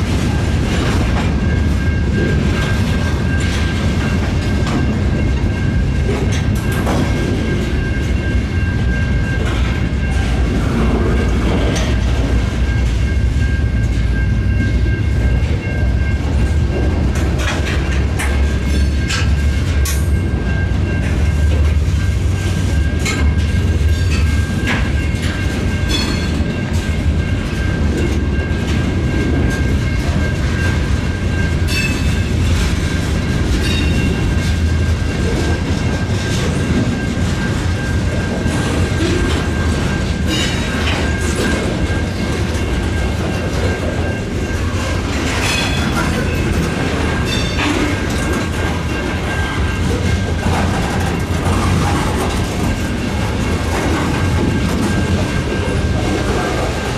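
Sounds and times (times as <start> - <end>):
freight train cars rumbling: 0.0 - 56.9
steady high ring: 0.0 - 56.9
wheel clatter over rail joints: 0.0 - 56.9.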